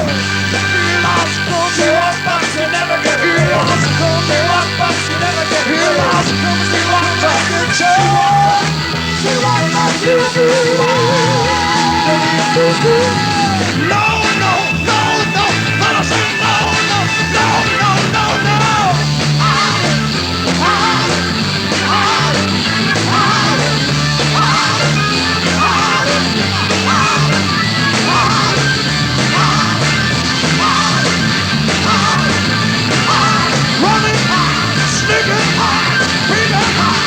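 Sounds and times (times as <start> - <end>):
rock band playing: 0.0 - 37.0.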